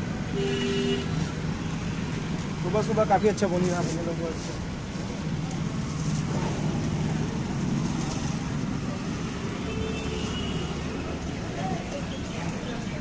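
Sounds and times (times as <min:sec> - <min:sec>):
cars passing: 0:00.0 - 0:13.0
motorbikes passing: 0:00.0 - 0:13.0.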